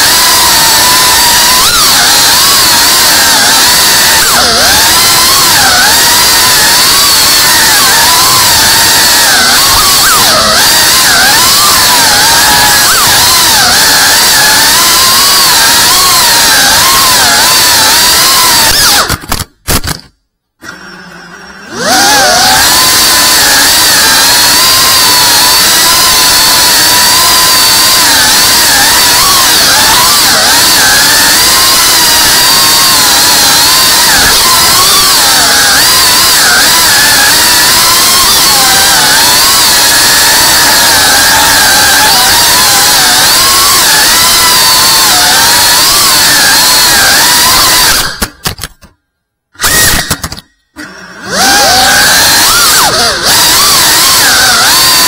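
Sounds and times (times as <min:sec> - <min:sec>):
drone motors whining: 0:00.0 - 0:19.2, 0:20.6 - 0:48.9, 0:49.6 - 0:55.0.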